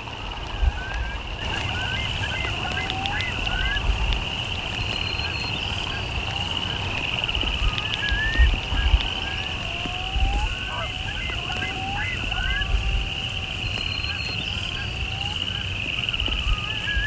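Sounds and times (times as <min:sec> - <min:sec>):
rising bird calls: 0:00.0 - 0:17.0
wind rumbling on microphone: 0:00.0 - 0:17.0
high-pitched trilling chorus: 0:00.6 - 0:17.0.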